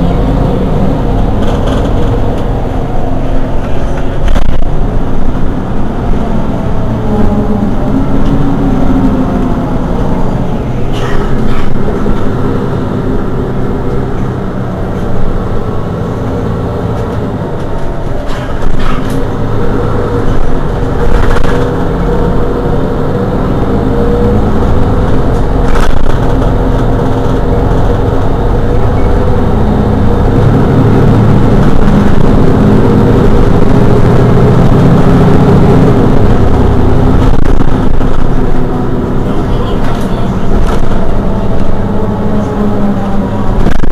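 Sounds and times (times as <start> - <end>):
diesel bus engine idling: 0.0 - 43.9.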